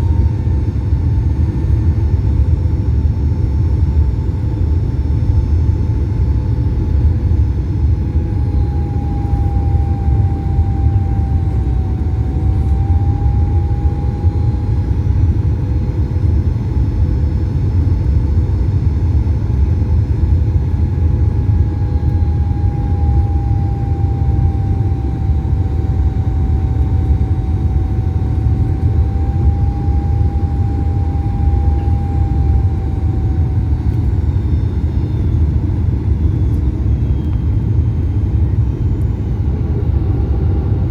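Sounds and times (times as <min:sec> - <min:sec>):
aircraft cabin engine rumble: 0:00.0 - 0:40.9
faint high hum: 0:00.0 - 0:40.9.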